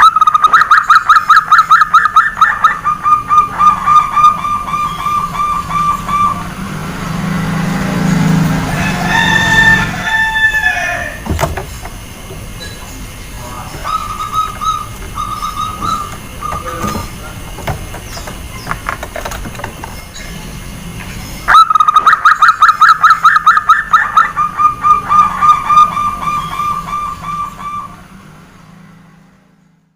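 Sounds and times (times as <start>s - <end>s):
dove cooing: 0.0s - 11.8s, 12.4s - 20.9s, 21.5s - 28.5s.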